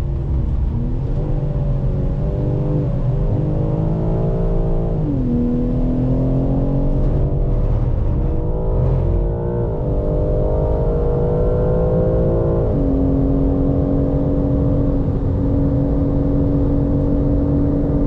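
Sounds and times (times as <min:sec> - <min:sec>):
car engine revving through upshifts: 0:00.2 - 0:18.0.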